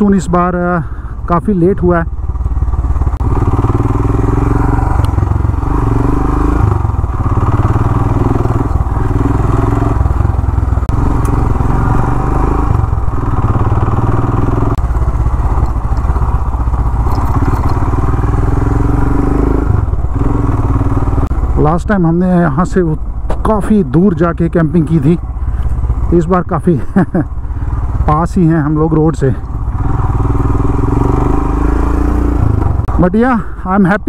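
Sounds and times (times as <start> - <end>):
motorcycle engine running at low speed: 0.0 - 34.0.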